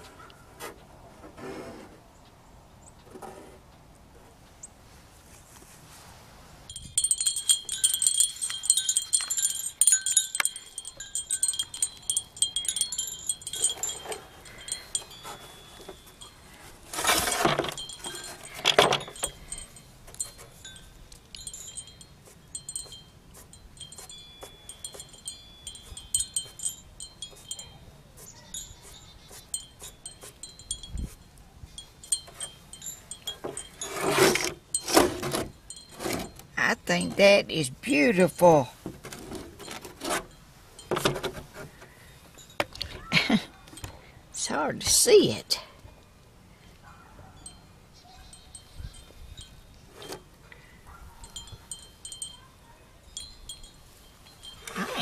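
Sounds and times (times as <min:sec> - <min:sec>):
wind chimes tinkling: 0:06.7 - 0:38.8, 0:39.6 - 0:46.2, 0:46.8 - 0:55.0.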